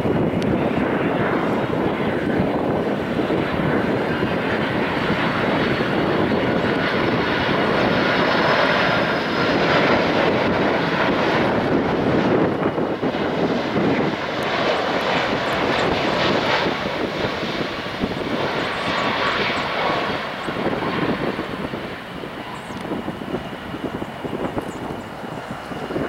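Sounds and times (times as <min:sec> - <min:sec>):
jet engines on approach: 0:00.0 - 0:26.0.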